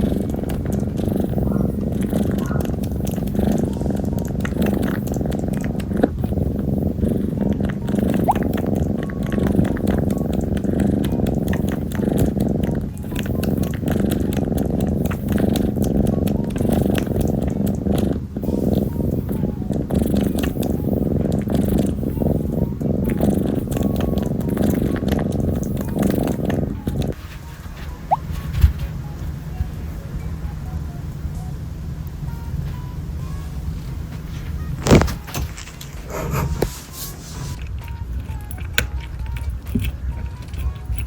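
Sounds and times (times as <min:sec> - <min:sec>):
kitten purring: 0:00.0 - 0:41.0.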